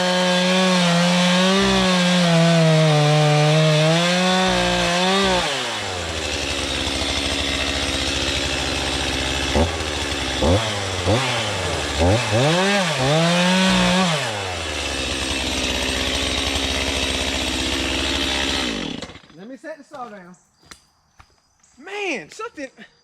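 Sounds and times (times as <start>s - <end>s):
chainsaw idling and revving: 0.0s - 19.4s.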